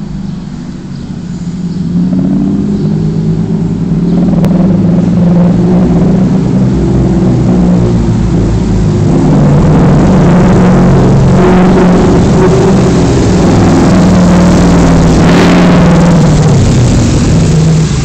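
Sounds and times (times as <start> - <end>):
car engines passing: 0.0 - 18.0.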